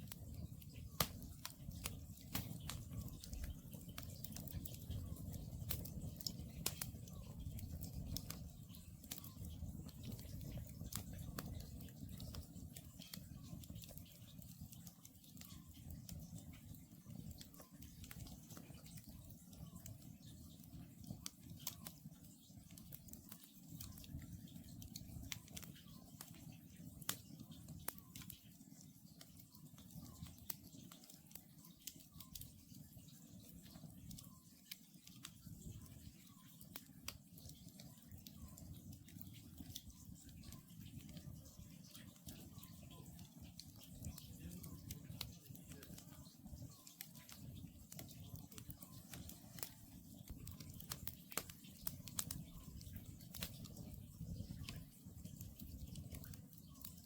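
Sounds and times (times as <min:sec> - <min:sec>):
campfire crackling and popping: 0:00.0 - 0:57.0
low rumble of burning logs: 0:00.0 - 0:57.0.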